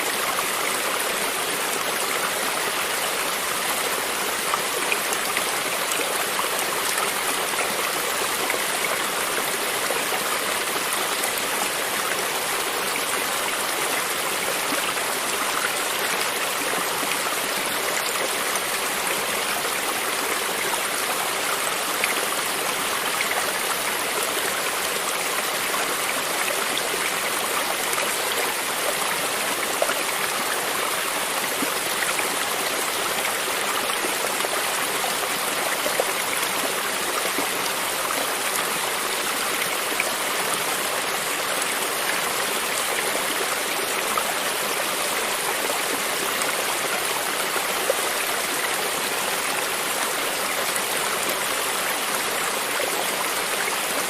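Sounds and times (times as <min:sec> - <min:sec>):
creek water running over stones: 0:00.0 - 0:54.0.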